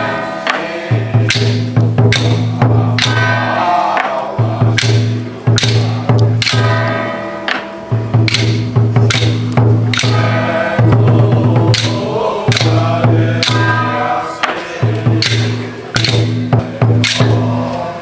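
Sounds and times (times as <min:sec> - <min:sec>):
low chanting: 0:00.0 - 0:18.0
sharp percussion strikes: 0:00.0 - 0:18.0.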